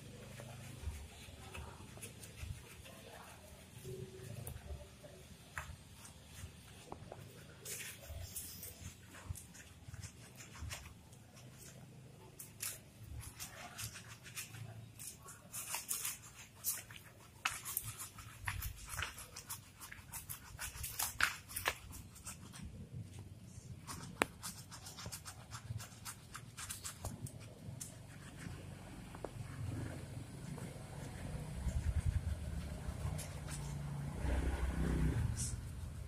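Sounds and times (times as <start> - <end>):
brush scrubbing wet dog: 0.0 - 22.8, 23.4 - 36.0.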